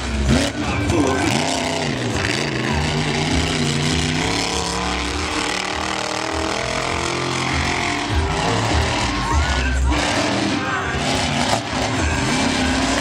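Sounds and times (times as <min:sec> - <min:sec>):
truck engine running loudly: 0:00.0 - 0:13.0.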